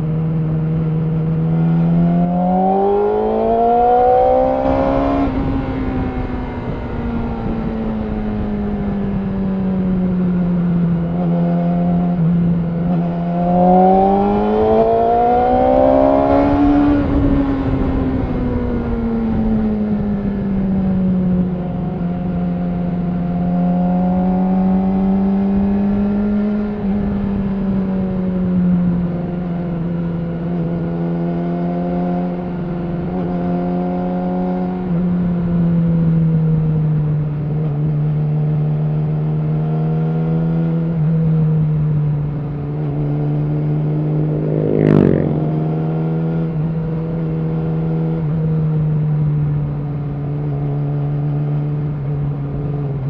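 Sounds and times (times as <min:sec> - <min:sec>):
motorcycle engine cruising: 0:00.0 - 0:53.0.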